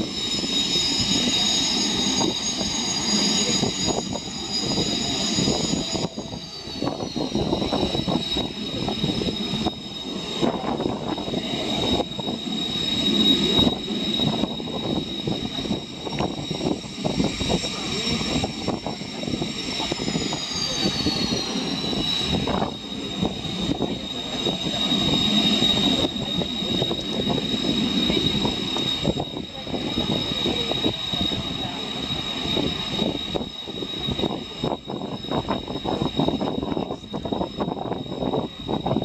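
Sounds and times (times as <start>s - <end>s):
jet engines whining overhead: 0.0s - 39.0s
wind buffeting microphone: 0.0s - 39.0s.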